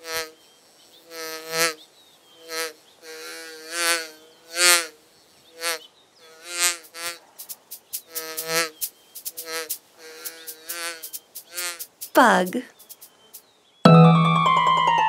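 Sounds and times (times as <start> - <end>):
insect buzzing: 0.0 - 13.8.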